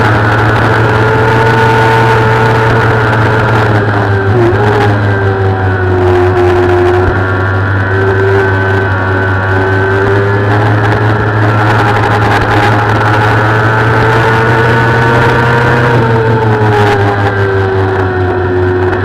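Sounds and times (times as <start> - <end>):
motorcycle engine revving: 0.0 - 19.0
wind noise: 0.0 - 19.0.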